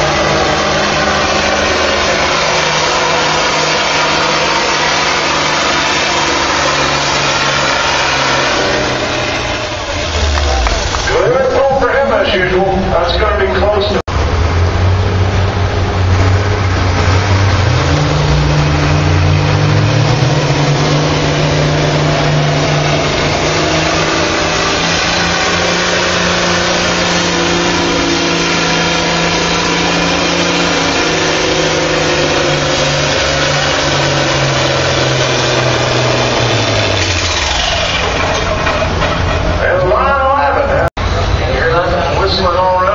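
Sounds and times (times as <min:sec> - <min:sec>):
tractor engine under full load: 0:00.0 - 0:42.9.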